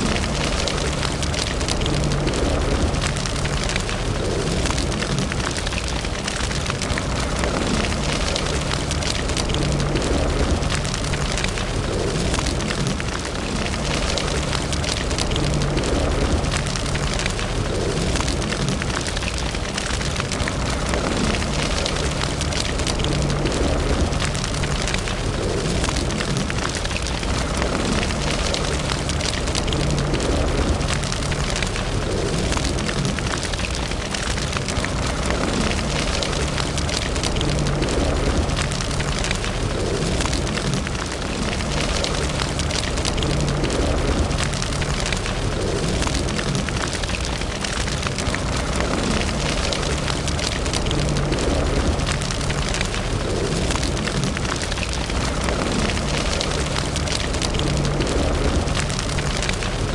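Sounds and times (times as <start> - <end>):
fire crackling: 0.0 - 59.9.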